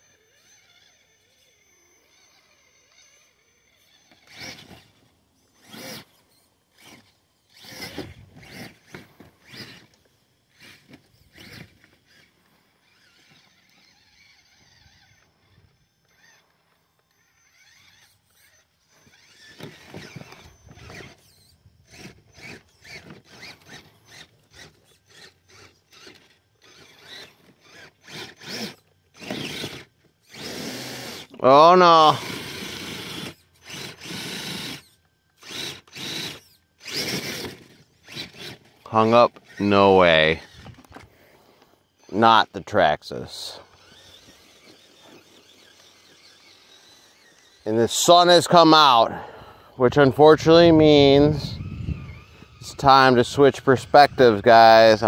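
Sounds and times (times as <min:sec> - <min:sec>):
toy car motor whining: 0:00.0 - 0:55.0.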